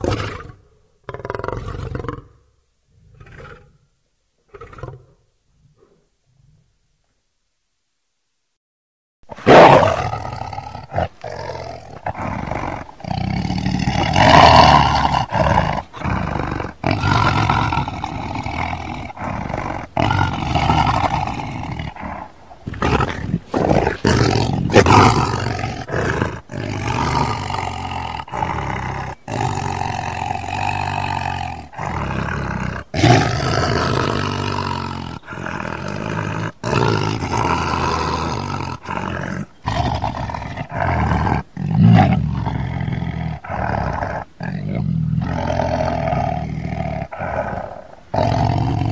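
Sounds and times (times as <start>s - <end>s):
lion roaring: 9.3s - 48.9s.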